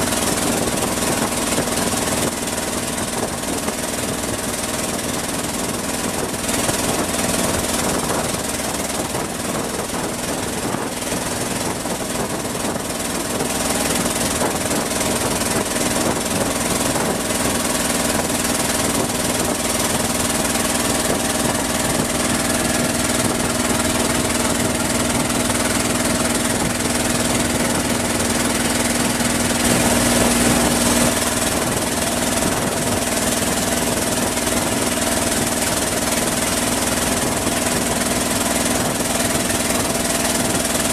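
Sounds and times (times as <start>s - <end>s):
boat engine drone: 0.0s - 40.9s
hiss of water and wind: 0.0s - 40.9s.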